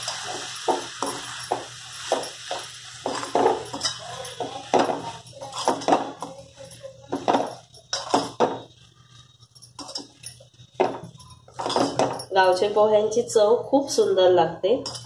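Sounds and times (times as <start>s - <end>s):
spoon scraping and knocking pan: 0.0s - 8.9s, 9.5s - 12.8s.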